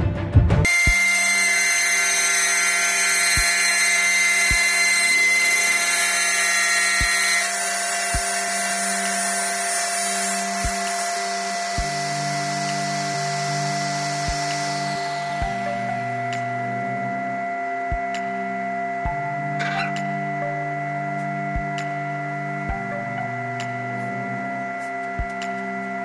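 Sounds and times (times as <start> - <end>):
table saw cutting panel: 0.7 - 26.0.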